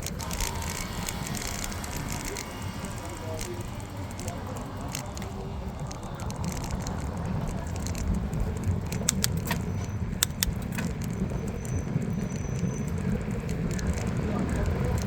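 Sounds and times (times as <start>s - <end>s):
bicycle rattling: 0.0s - 15.0s
sharp clicks: 0.0s - 15.0s
wind rumbling on microphone: 0.0s - 15.0s.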